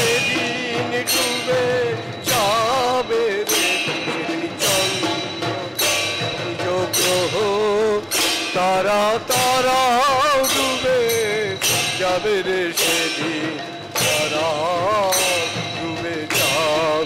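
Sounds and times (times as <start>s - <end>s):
drums: 0.0s - 17.0s
hand cymbals crashing: 0.0s - 17.0s
wavering wordless melody: 0.0s - 17.0s.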